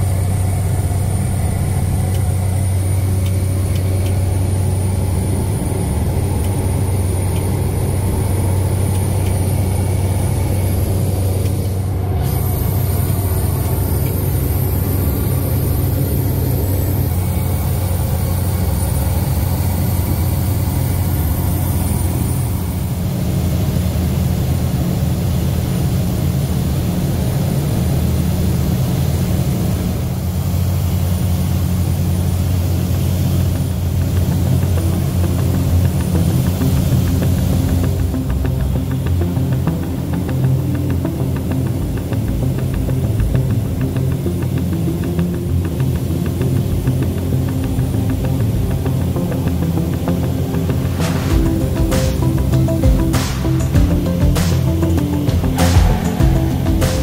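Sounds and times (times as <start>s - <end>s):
plane engine droning in cabin: 0.0s - 57.0s.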